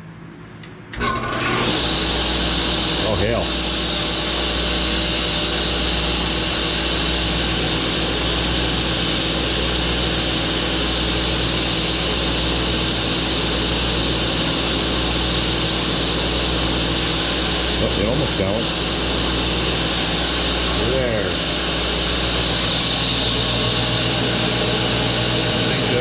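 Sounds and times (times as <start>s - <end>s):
table saw running: 1.0s - 26.0s.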